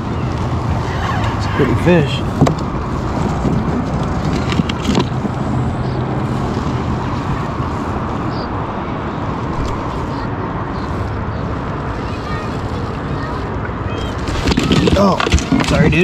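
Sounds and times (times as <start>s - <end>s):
rushing microphone noise: 0.0s - 16.0s.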